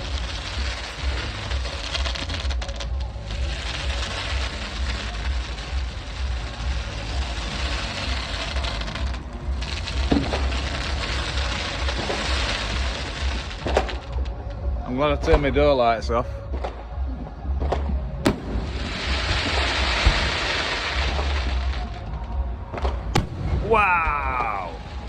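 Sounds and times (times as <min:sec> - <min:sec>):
fireworks crackling: 0:00.0 - 0:25.0.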